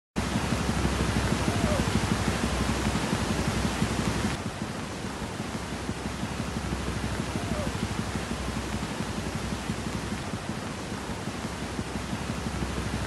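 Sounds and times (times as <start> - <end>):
floodwater rushing: 0.2 - 13.0.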